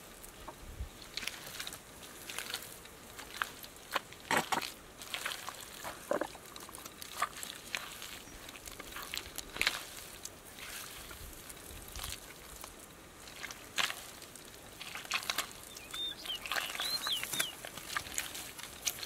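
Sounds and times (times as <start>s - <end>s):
hands squelching in wet mud: 1.0s - 19.0s.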